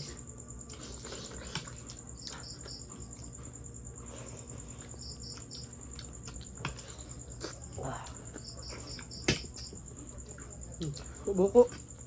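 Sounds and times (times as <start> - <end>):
insect chirps: 0.0 - 12.0
insects trilling: 0.0 - 12.0.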